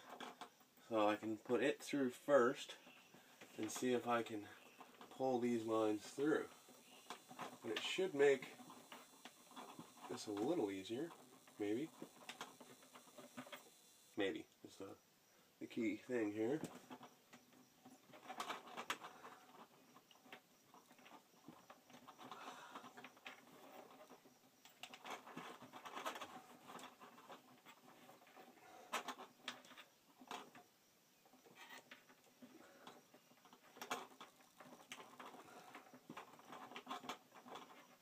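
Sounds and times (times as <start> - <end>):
cables rustling and scraping: 0.0 - 15.0, 15.6 - 38.0.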